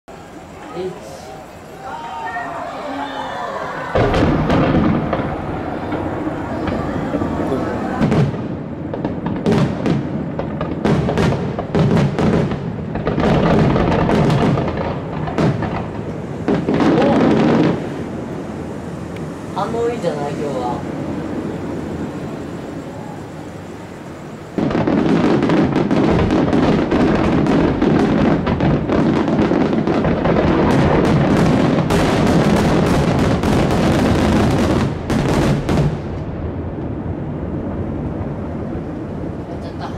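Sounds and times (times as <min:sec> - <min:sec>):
fireworks booming with echo: 0:00.1 - 0:39.9.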